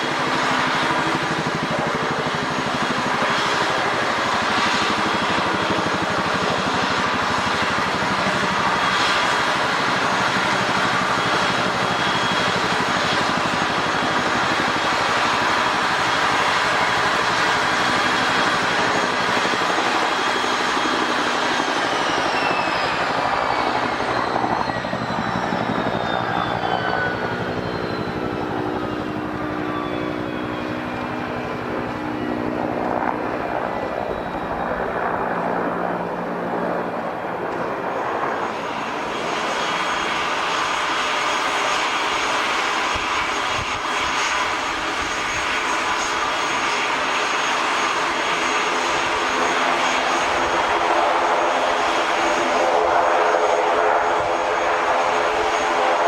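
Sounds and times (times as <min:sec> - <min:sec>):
airliner engine whine: 0:00.0 - 0:56.0
jet engine noise: 0:00.0 - 0:56.0.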